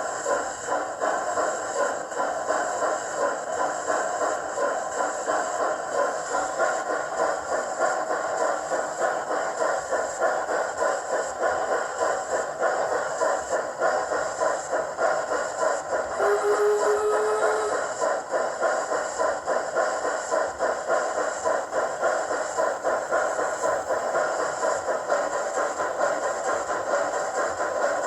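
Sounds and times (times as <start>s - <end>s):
steam locomotive exhaust chuffs: 0.0s - 28.0s.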